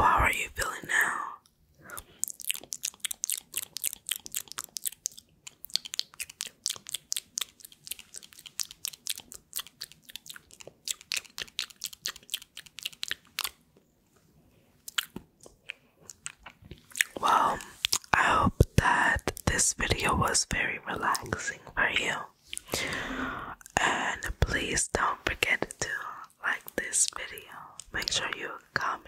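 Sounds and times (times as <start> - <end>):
gum chewing mouth sounds: 0.6 - 13.6, 14.8 - 29.0.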